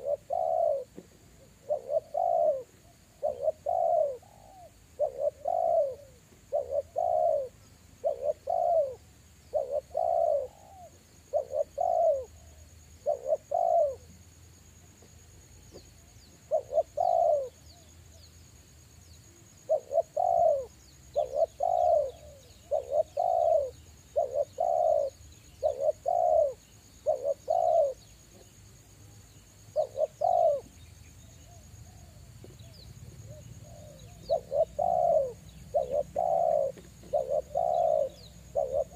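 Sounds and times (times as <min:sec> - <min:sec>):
dove cooing: 0:00.0 - 0:14.4, 0:15.0 - 0:17.9, 0:19.5 - 0:28.6, 0:29.6 - 0:38.9
small birds chirping: 0:00.0 - 0:38.9.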